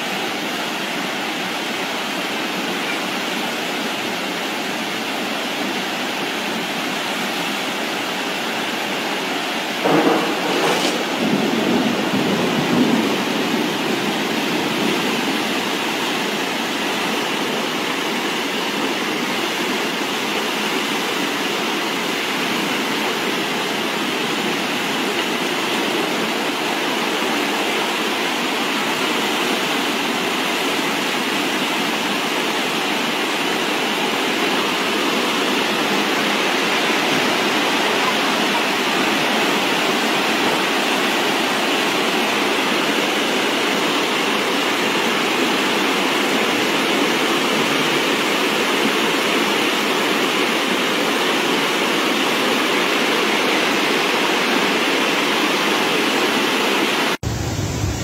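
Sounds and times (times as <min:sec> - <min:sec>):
flood water rushing: 0:00.0 - 0:58.0.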